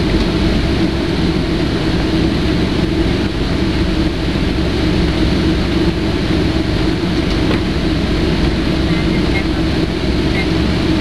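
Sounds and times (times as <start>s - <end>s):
jet engine drone in cabin: 0.0s - 11.0s.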